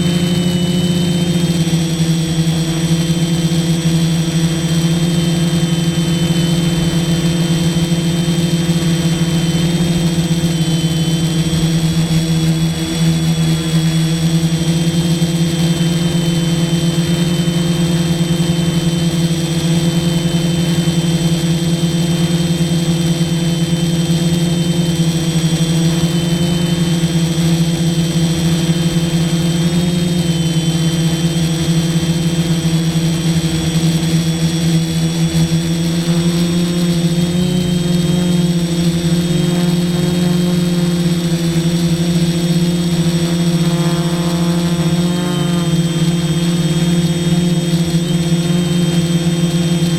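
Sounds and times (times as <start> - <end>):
quadcopter motors humming: 0.0 - 49.9.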